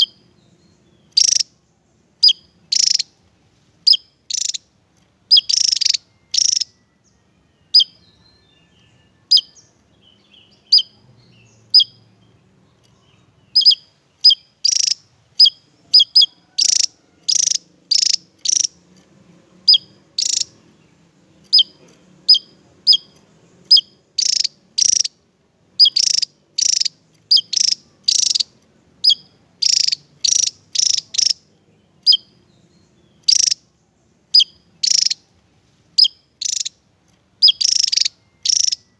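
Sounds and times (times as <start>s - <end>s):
bird high chirps: 0.0s - 38.9s.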